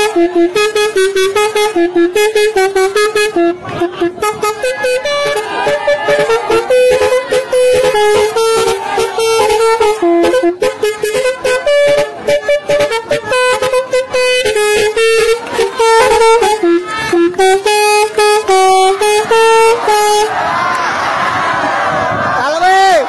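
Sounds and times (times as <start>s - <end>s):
musical air horn playing a tune: 0.0s - 20.4s.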